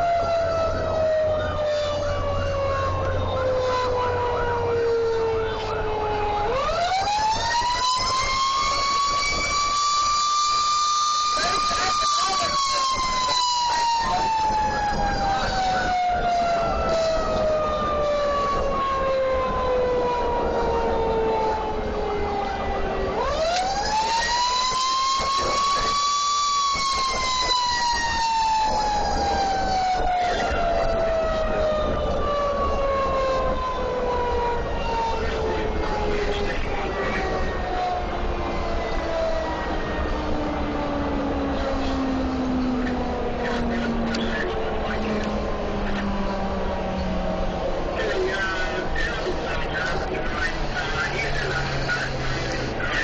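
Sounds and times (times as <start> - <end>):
fire truck siren: 0.0 - 53.0
road noise: 0.0 - 53.0
truck engine: 0.0 - 53.0.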